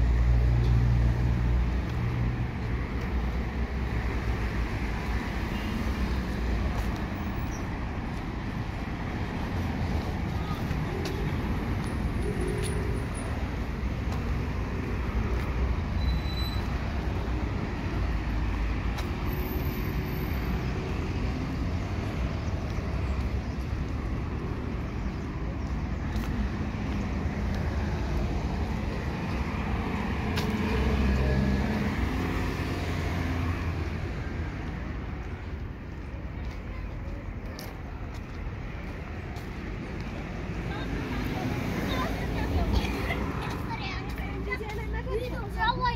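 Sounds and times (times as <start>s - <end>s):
street traffic passing: 0.0s - 45.9s.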